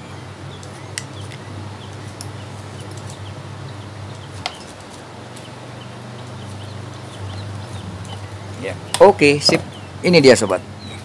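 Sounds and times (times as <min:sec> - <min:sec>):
low steady hum: 0:00.0 - 0:11.0
small birds chirping: 0:00.0 - 0:11.0.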